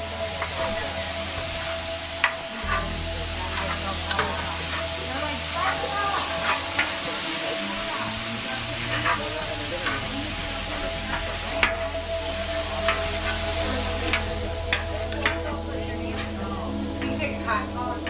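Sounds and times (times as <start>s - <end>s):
beef sizzling on griddle: 0.0s - 18.0s.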